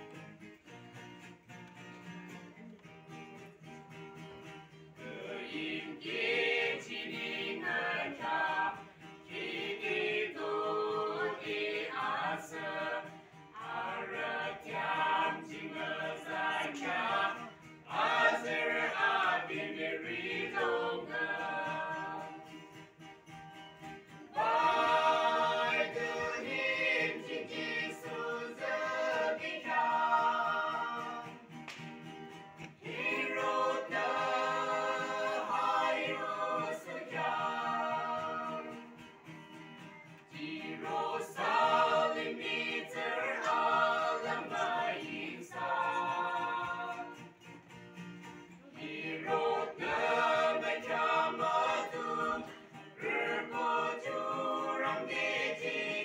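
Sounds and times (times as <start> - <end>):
acoustic guitar: 0.0 - 56.0
group singing gospel: 4.9 - 23.0, 24.0 - 31.6, 32.7 - 39.4, 40.3 - 47.5, 48.6 - 56.0.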